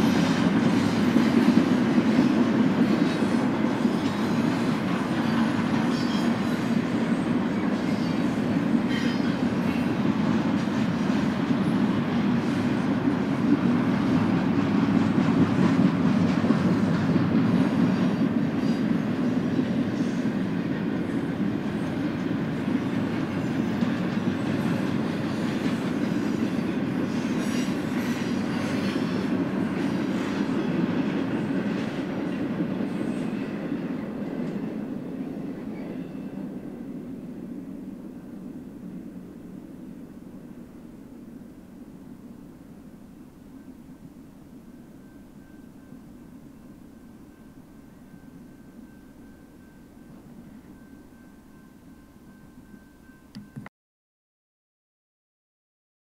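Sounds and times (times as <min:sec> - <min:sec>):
train wheels rumbling on rail: 0:00.0 - 0:53.6.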